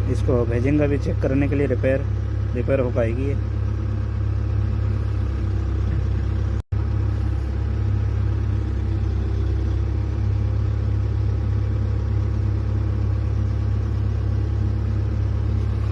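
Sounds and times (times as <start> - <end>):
excavator diesel engine rumbling: 0.0 - 15.9.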